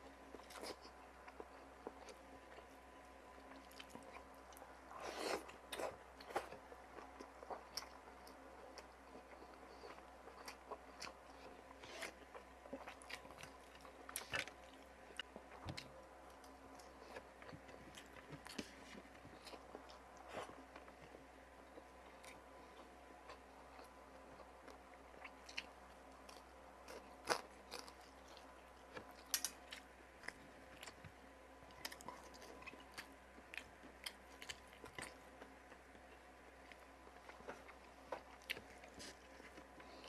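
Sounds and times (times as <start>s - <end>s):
person chewing and crunching food: 0.3s - 40.0s.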